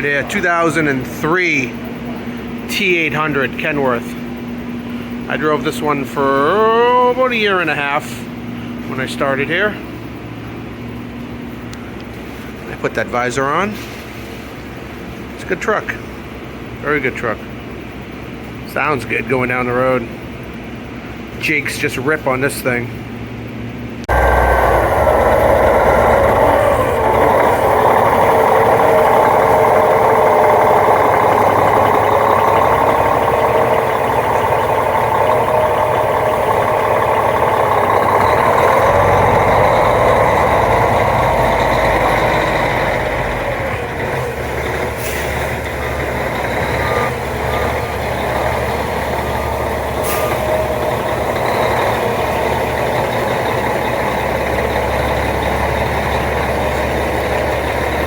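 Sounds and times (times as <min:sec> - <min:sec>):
truck diesel engine running: 0:00.0 - 0:21.4, 0:22.2 - 0:58.0.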